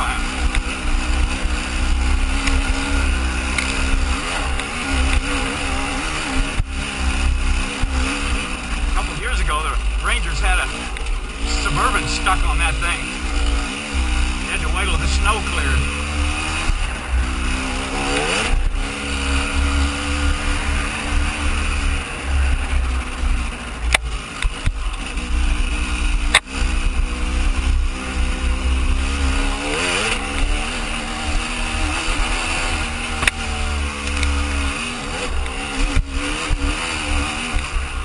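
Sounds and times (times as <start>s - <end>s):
dirt bike engine revving: 0.0s - 38.0s
heavy low rumble: 0.0s - 38.0s.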